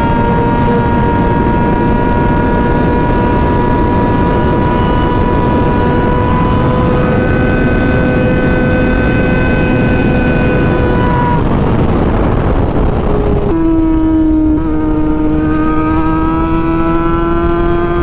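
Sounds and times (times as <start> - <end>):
motorcycle engine cruising: 0.0 - 18.0
wind rushing: 0.0 - 18.0.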